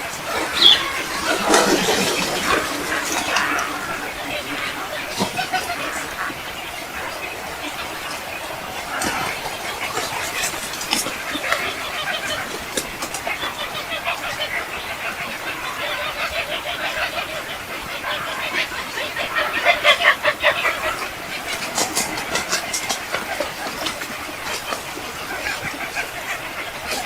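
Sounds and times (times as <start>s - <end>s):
birds chattering and chirping: 0.0s - 27.0s.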